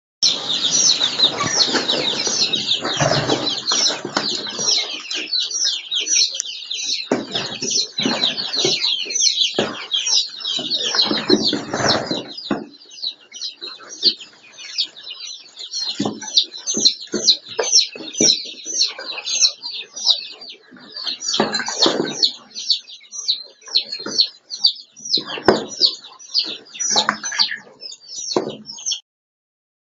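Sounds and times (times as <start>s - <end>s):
quail chirping: 0.2s - 29.0s.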